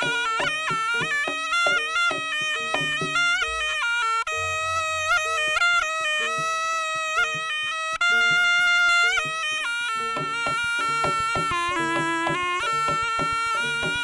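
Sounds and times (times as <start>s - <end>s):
drum and percussion strokes: 0.0s - 14.0s
shawm playing nasal melody: 0.0s - 14.0s.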